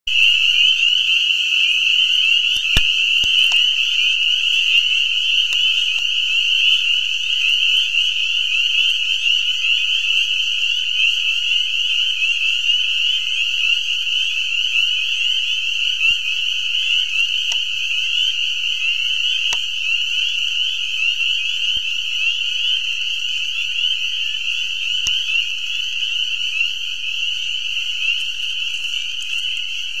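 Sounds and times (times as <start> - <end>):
frogs peeping in chorus: 0.1 - 30.0.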